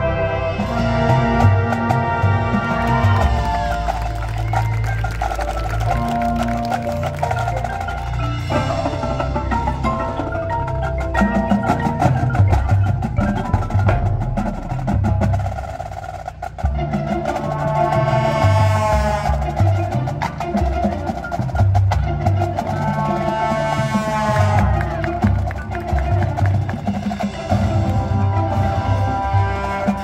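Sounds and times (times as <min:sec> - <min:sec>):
mallet percussion and drums: 0:00.0 - 0:30.0
marching band playing: 0:00.0 - 0:30.0.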